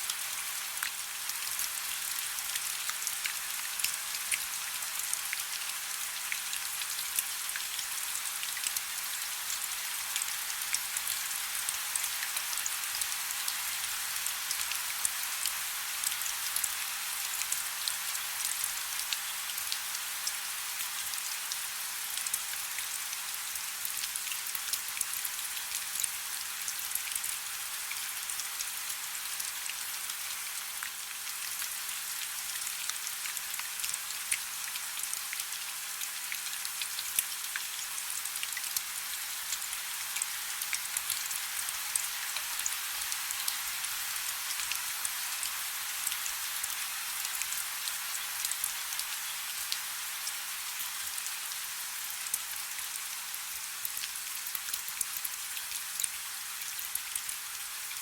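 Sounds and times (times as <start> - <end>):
soft rain falling: 0.0 - 58.0.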